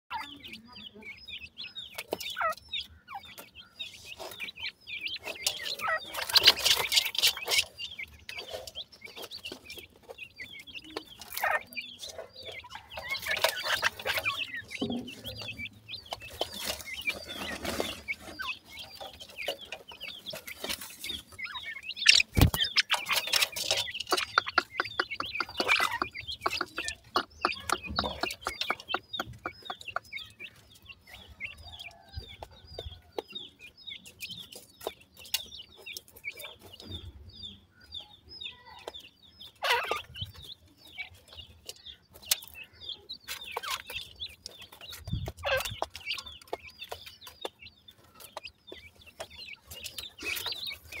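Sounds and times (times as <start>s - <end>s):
chicks peeping: 0.1s - 51.0s
pecking clicks and rustling: 0.2s - 37.3s, 38.8s - 51.0s.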